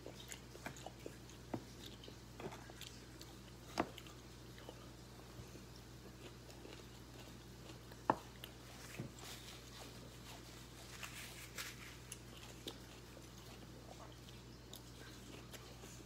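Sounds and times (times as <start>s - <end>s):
low steady hum: 0.0s - 16.0s
person chewing food: 0.0s - 16.0s.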